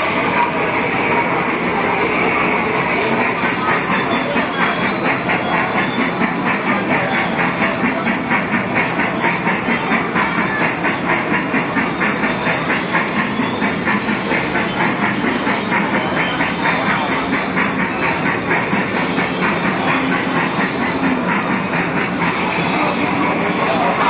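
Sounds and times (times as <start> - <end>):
ride-on toy train wheels clacking: 0.0 - 24.0.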